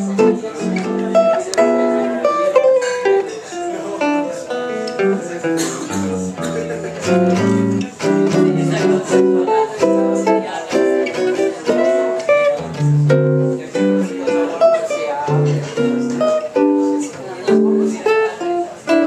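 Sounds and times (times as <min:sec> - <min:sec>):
jazz guitar solo: 0:00.0 - 0:19.0.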